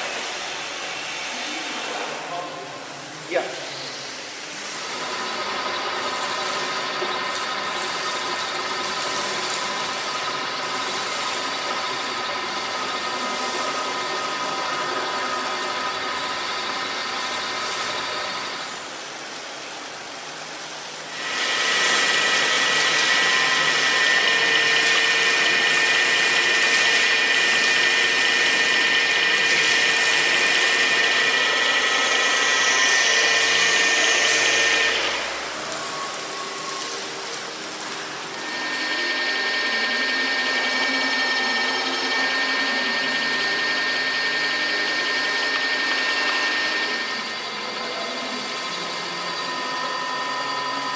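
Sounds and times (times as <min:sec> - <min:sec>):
milling machine whine: 0:00.0 - 0:50.9.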